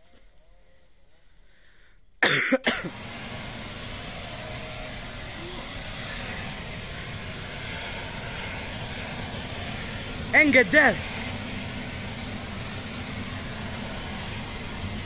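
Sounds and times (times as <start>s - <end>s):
flame rushing: 0.0s - 15.0s
flamethrower igniting burst: 0.1s - 15.0s.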